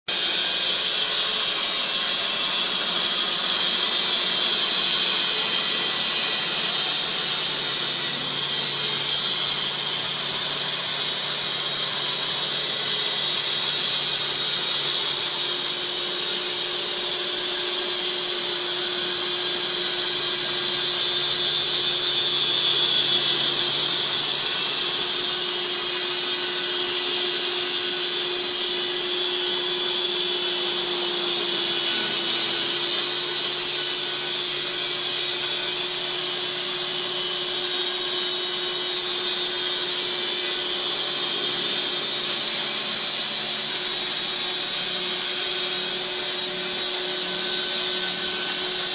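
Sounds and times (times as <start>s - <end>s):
bandsaw blade cutting wood: 0.1s - 48.9s.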